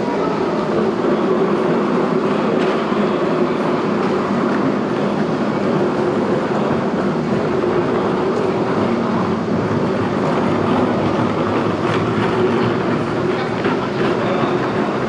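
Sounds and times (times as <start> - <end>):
loud mechanical drone: 0.0 - 15.0.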